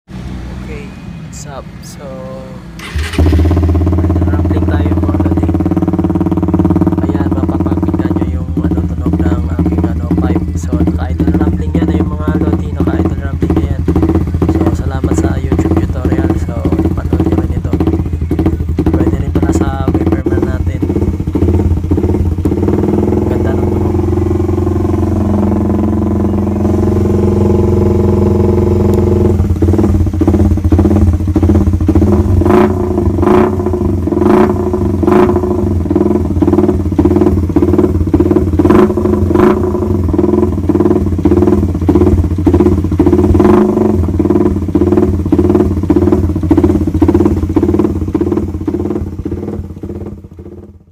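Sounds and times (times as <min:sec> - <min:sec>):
motorcycle engine idling: 0:00.2 - 0:50.9.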